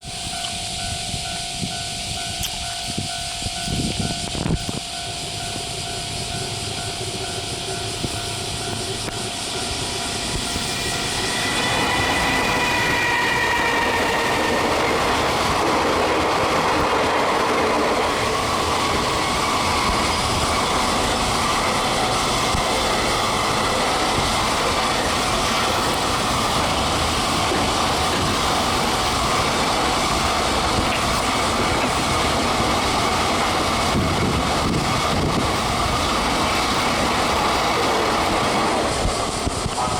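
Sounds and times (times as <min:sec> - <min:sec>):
electric locomotive motors whining: 0:00.0 - 0:39.9
freight train rumbling past: 0:00.0 - 0:39.9
clickety-clack of rail joints: 0:05.8 - 0:39.9.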